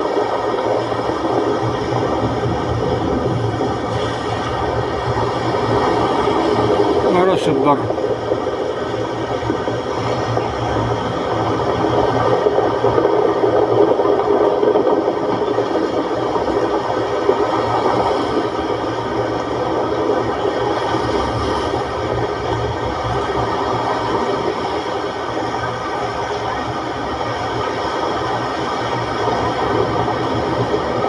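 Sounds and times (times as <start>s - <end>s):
waves breaking on shore: 0.0s - 31.0s.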